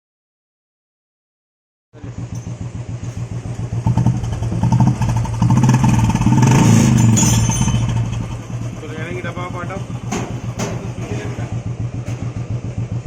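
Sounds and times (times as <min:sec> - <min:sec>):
motorcycle engine running: 0:02.0 - 0:13.0.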